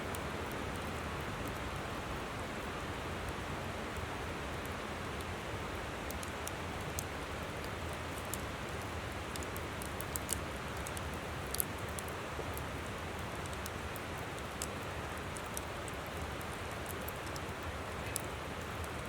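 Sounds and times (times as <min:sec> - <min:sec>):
campfire crackling and popping: 0:00.1 - 0:01.6, 0:04.6 - 0:19.0.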